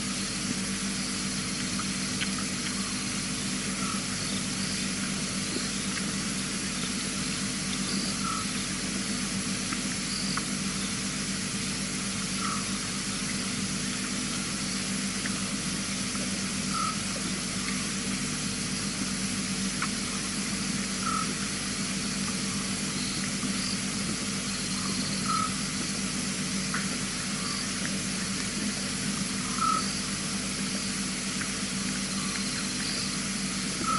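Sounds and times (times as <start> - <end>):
microphone hiss and hum: 0.0 - 33.9.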